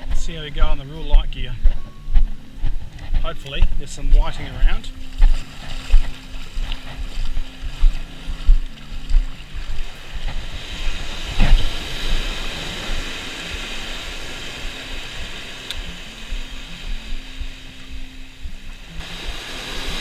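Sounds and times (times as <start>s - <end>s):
wind buffeting microphone: 0.0s - 20.0s
surf washing on beach: 3.5s - 20.0s.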